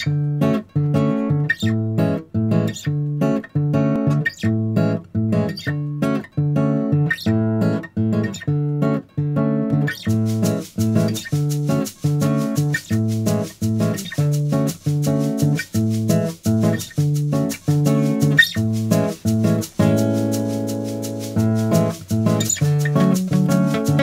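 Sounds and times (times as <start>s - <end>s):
guitar chords: 0.0s - 24.0s.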